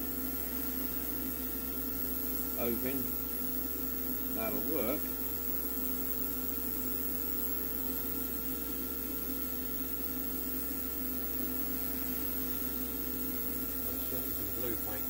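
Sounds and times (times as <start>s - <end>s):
extractor fan running: 0.0s - 15.0s.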